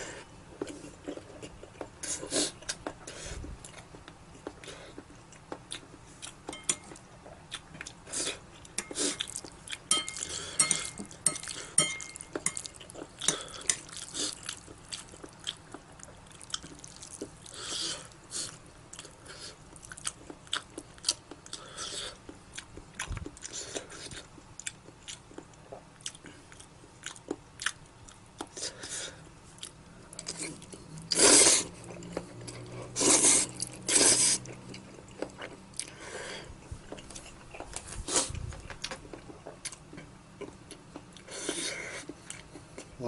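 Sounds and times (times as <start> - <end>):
person chewing noodles: 0.0 - 43.0.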